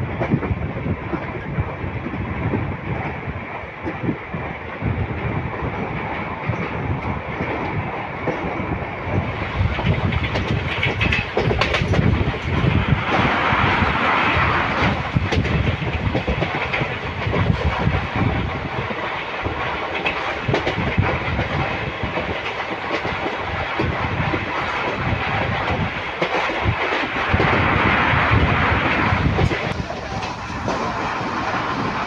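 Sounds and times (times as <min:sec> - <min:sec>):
rail clatter: 0:00.0 - 0:32.0
train rumbling: 0:00.0 - 0:32.0
wind rushing: 0:00.0 - 0:32.0.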